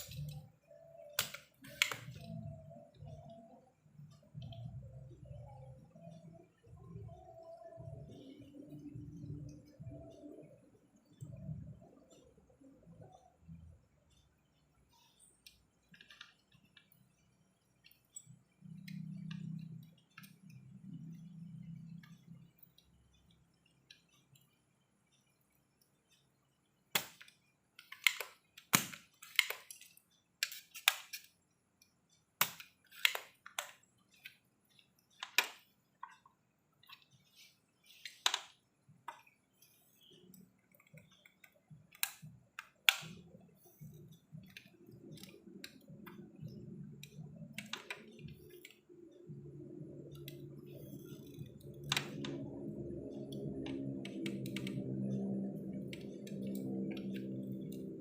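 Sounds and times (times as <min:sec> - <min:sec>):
low steady hum: 0:00.0 - 0:30.4, 0:31.4 - 0:58.0
sharp irregular clicks and knocks: 0:00.0 - 0:58.0.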